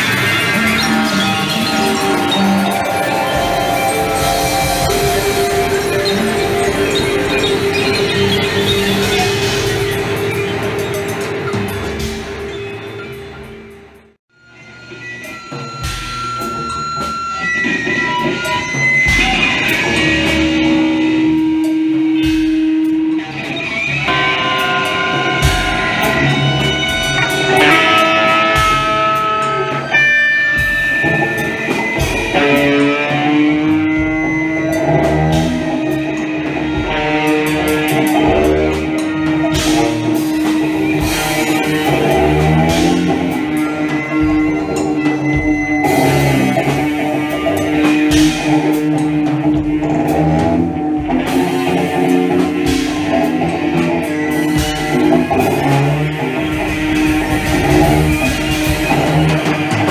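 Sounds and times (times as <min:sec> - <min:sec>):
plucked guitar: 0:00.0 - 0:13.6, 0:15.4 - 0:59.9
drum and percussion hits: 0:00.0 - 0:14.1, 0:15.2 - 0:59.9.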